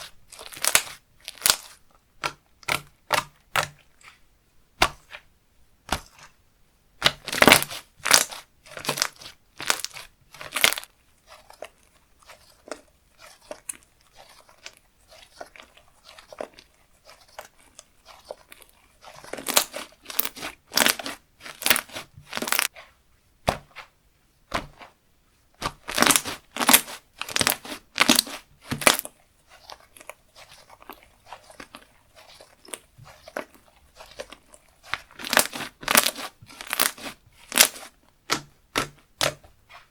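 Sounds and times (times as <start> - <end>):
slime crackling and popping: 0.0 - 4.2, 7.0 - 22.8, 25.6 - 39.8
slime squishing: 0.0 - 39.9.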